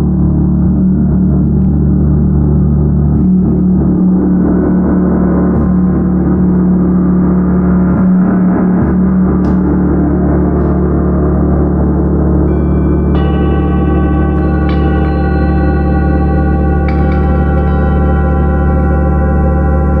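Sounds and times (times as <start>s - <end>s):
gong played continuously: 2.9s - 20.0s.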